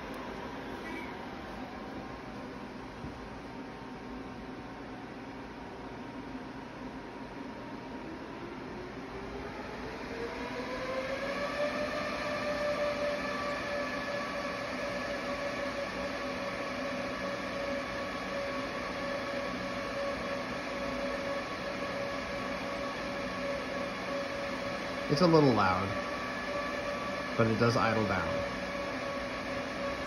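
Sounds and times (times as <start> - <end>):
server cooling fans whining: 0.0 - 30.0.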